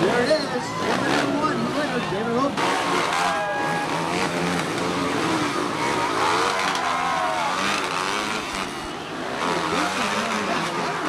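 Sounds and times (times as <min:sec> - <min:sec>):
motocross bikes revving: 0:00.0 - 0:11.0.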